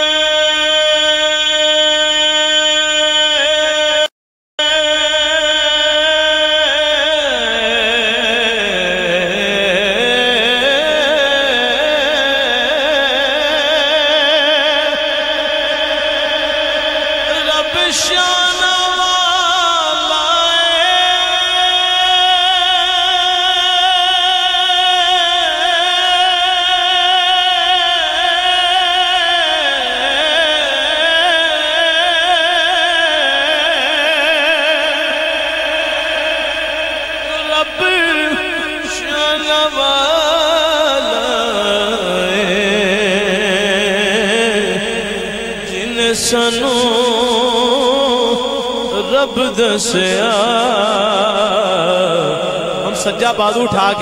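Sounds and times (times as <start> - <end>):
man chanting: 0.0 - 54.0
man singing into a microphone: 0.0 - 54.0.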